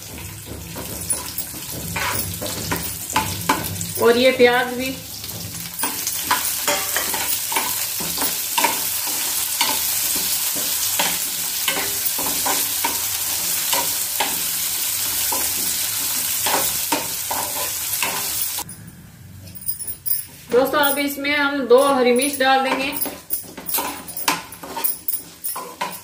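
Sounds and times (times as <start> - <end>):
food sizzling in hot oil: 0.0 - 18.7, 22.6 - 26.0
steel spoon scraping pan: 0.8 - 4.1, 5.2 - 18.7, 20.2 - 26.0.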